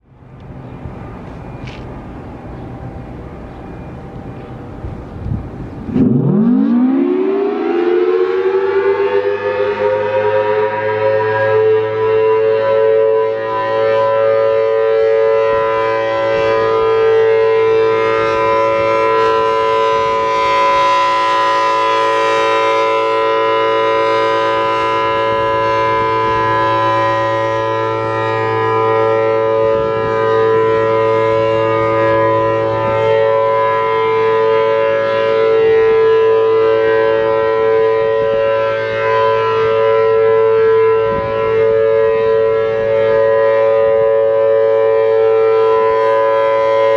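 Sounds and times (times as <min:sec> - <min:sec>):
two-tone warning siren: 0:00.0 - 0:46.9.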